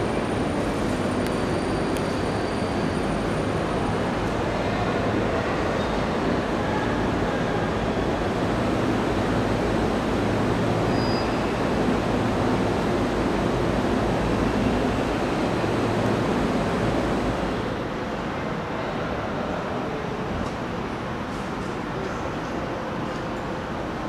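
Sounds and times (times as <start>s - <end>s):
steady rushing noise: 0.0s - 19.8s.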